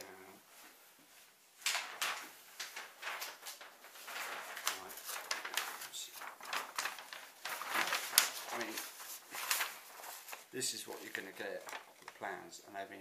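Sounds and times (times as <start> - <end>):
paper sheets rustling and crackling: 0.6 - 13.0.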